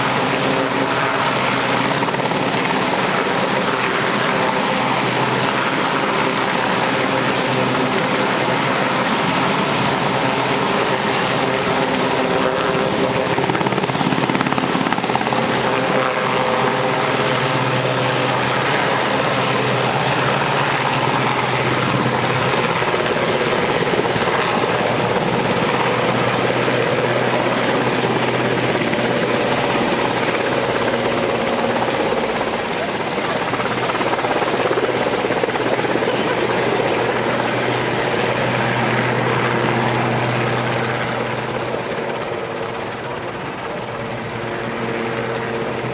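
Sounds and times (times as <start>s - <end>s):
helicopter rotor and turbines: 0.0s - 45.9s.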